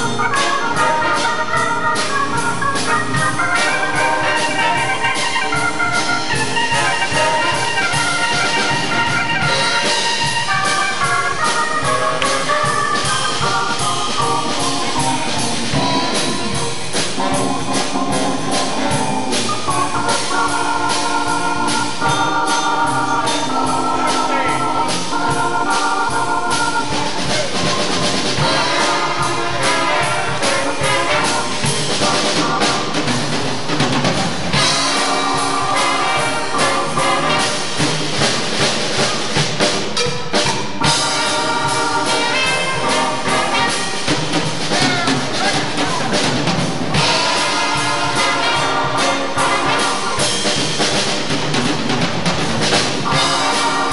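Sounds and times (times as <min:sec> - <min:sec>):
brass and saxophone chords: 0:00.0 - 0:53.9
drum kit keeping time: 0:00.0 - 0:53.9.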